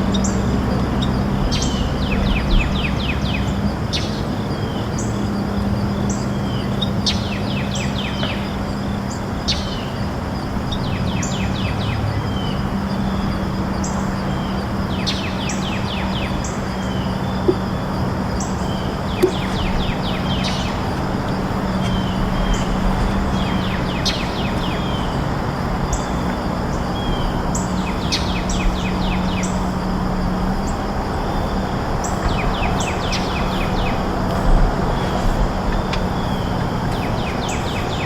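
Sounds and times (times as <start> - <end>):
birds chirping: 0.0 - 38.0
steady low hum: 0.0 - 38.0.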